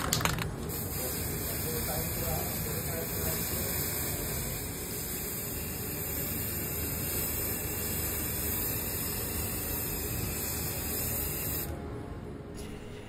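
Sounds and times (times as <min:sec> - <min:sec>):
aerosol spray can hissing: 0:00.7 - 0:11.7.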